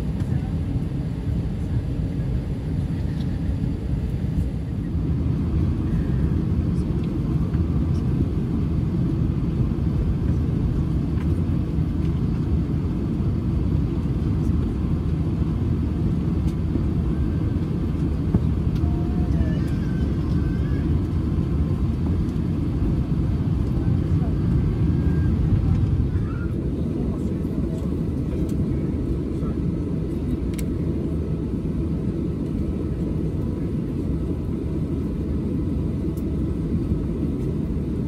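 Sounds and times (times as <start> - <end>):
airliner engine rumble: 0.0 - 38.0.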